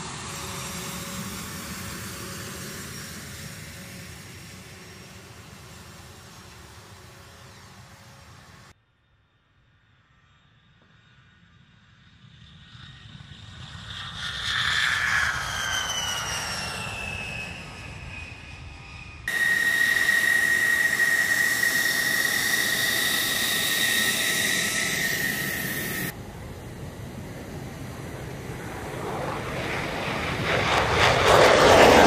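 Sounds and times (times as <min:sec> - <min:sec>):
jet engine whining at taxi: 0:00.0 - 0:08.7, 0:11.8 - 0:32.0
jet plane taking off: 0:00.0 - 0:08.7, 0:11.0 - 0:32.0.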